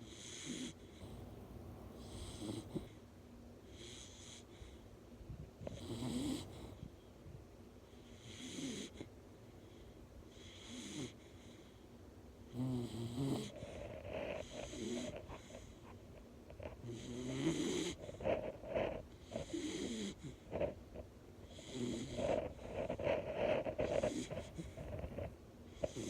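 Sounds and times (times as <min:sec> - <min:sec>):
dog snoring: 0:00.0 - 0:03.0, 0:03.7 - 0:04.7, 0:05.6 - 0:06.9, 0:08.0 - 0:09.1, 0:10.3 - 0:11.6, 0:12.5 - 0:26.0.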